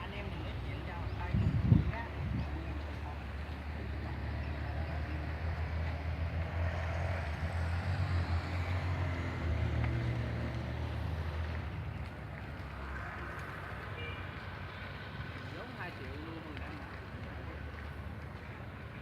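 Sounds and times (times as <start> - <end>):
road and wind noise: 0.0 - 19.0
vehicle engine rumbling: 0.0 - 19.0.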